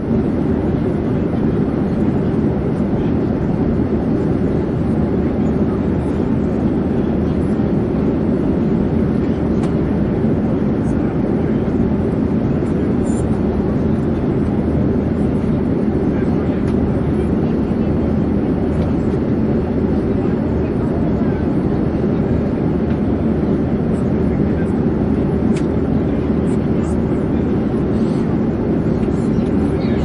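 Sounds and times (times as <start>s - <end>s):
airplane drone in flight: 0.0s - 30.0s.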